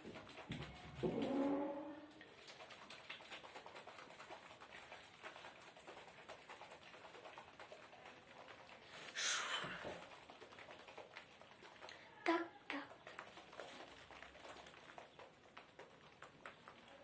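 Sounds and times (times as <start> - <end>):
plastic shaker cup rattling: 0.0 - 17.0.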